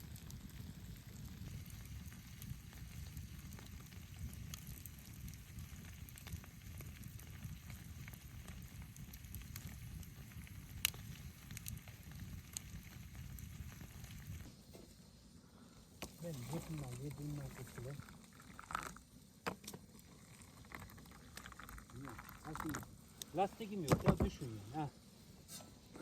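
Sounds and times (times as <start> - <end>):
campfire crackling and popping: 0.0 - 15.1, 15.8 - 26.0.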